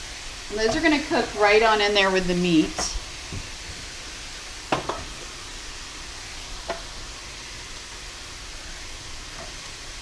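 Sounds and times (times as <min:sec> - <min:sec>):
meat sizzling in a skillet: 0:00.0 - 0:10.0.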